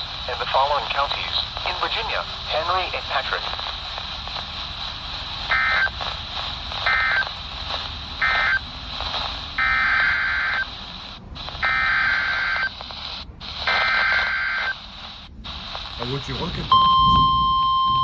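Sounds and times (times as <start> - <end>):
radio hiss: 0.0 - 17.3
radio data bursts: 0.0 - 18.0.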